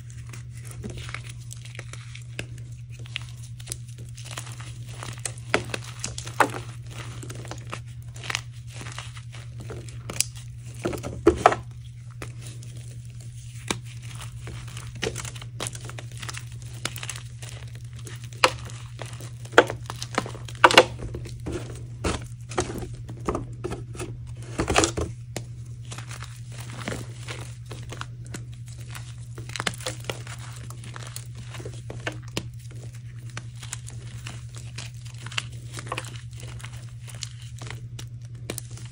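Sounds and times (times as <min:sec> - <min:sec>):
hands crushing dry blocks: 0:00.0 - 0:38.9
steady low hum: 0:00.0 - 0:38.9.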